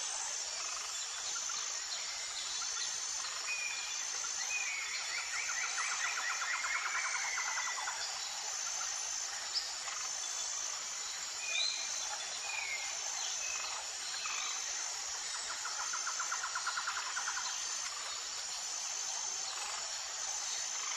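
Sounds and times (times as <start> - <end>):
insect hiss: 0.0 - 20.9.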